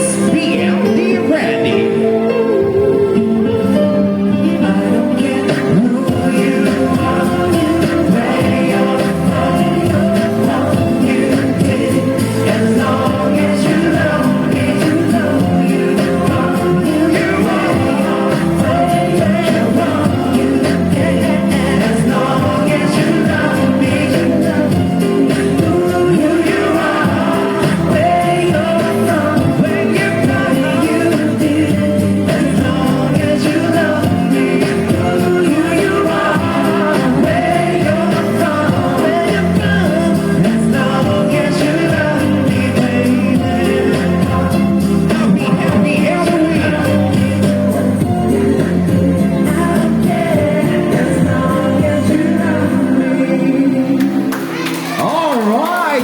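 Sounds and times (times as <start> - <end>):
dance song with singing: 0.0 - 56.0.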